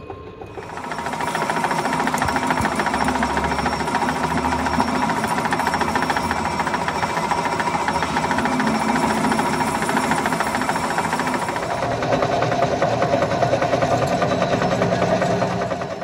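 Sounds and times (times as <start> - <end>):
metal lathe running: 0.4 - 16.0
fast even rattle: 0.6 - 16.0.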